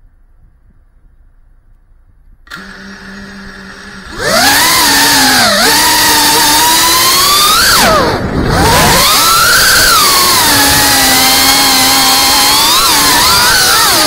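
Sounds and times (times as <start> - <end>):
drone motors whining: 2.5 - 14.0.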